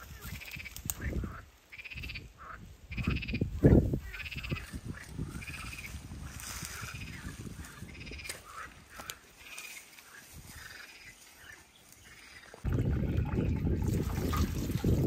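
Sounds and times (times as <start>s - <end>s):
frog calling: 0.0s - 6.0s, 6.6s - 13.5s.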